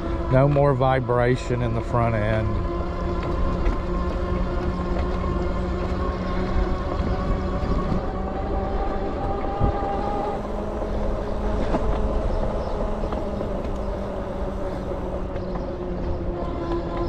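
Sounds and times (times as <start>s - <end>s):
electric drive whine: 0.0s - 17.0s
tire and wind rumble: 0.0s - 17.0s.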